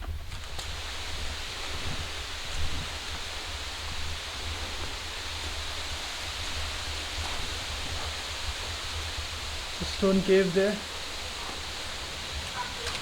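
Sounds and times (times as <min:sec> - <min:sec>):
wind rumbling on microphone: 0:00.0 - 0:13.0
outdoor rushing noise: 0:00.3 - 0:12.9.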